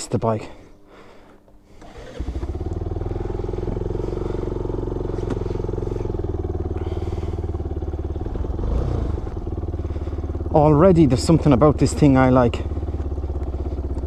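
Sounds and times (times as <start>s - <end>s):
motorcycle engine starting and running: 1.1s - 14.0s.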